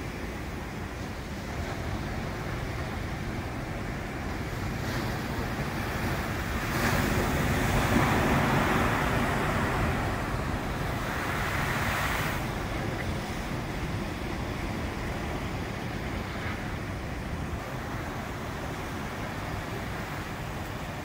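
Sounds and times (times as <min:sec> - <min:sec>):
surf washing on beach: 0:00.0 - 0:21.0.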